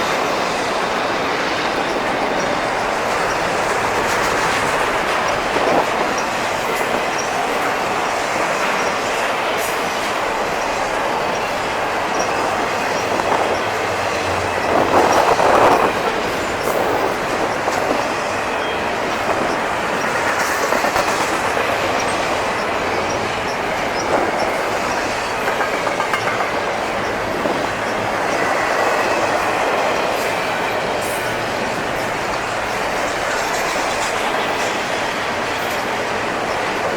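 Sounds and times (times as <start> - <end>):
freight train rumbling past: 0.0 - 36.9.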